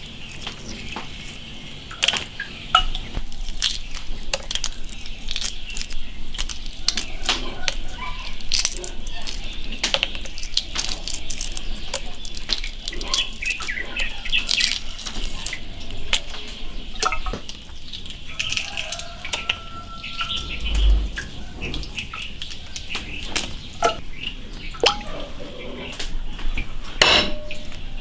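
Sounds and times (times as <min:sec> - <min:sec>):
egg shells crackling: 0:00.0 - 0:24.1
birds chirping: 0:00.0 - 0:28.0.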